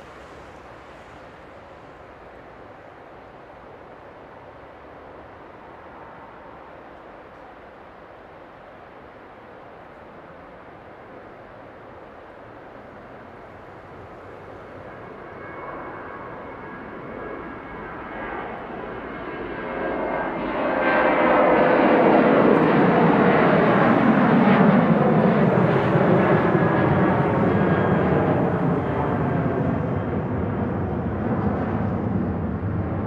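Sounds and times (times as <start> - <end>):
engine whine: 0.0 - 7.6, 12.4 - 33.0
jet engines at take-off: 0.0 - 33.0.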